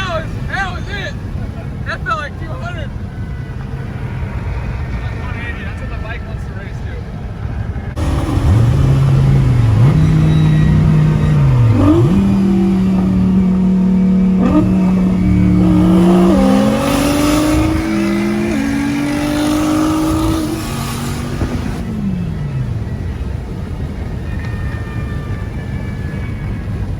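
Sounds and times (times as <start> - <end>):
car engine revving at speed: 0.0 - 25.0
road and wind rumble: 0.0 - 26.9.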